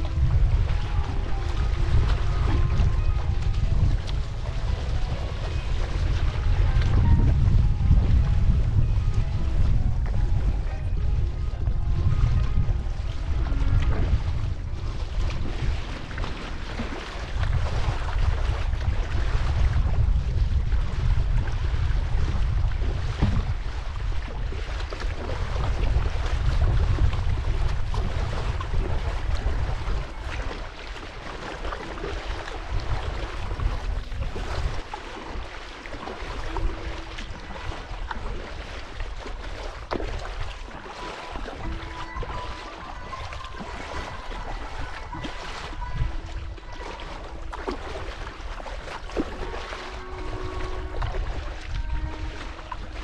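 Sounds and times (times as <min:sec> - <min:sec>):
river water rushing: 0:00.0 - 0:07.3, 0:12.4 - 0:20.1, 0:22.6 - 0:53.0
small paddle splashes: 0:00.0 - 0:07.5, 0:08.2 - 0:53.0
wind rumble on microphone: 0:00.0 - 0:53.0.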